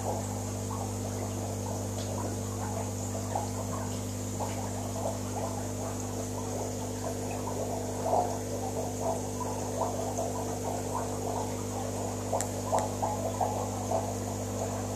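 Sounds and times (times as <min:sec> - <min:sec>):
aquarium pump humming: 0:00.0 - 0:14.9
water bubbling: 0:00.0 - 0:14.9.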